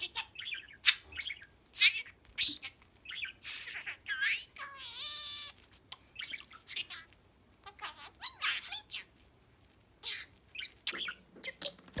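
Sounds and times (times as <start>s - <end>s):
budgerigar chirping and warbling: 0.0s - 9.1s, 10.0s - 11.6s.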